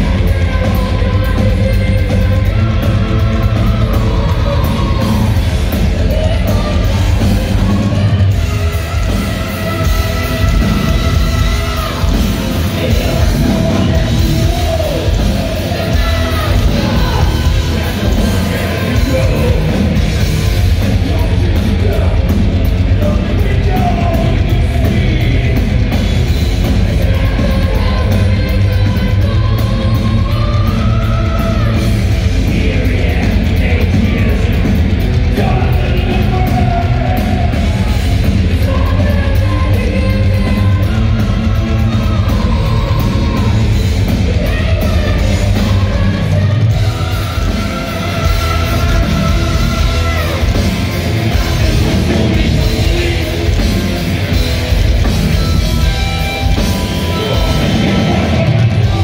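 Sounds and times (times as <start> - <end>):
heavy metal band playing live: 0.0 - 59.0
man singing: 0.0 - 59.0.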